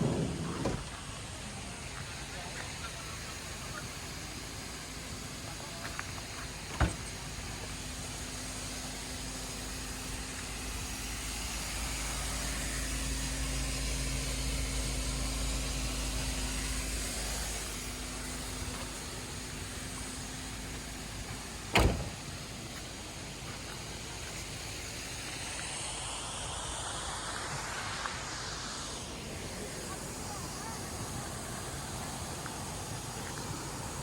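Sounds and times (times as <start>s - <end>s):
steady hiss: 0.0s - 34.0s
vehicle engine low hum: 0.0s - 34.0s.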